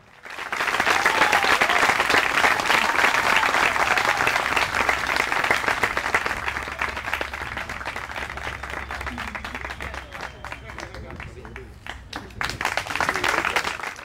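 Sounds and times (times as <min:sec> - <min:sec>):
small group applauding: 0:00.0 - 0:14.0.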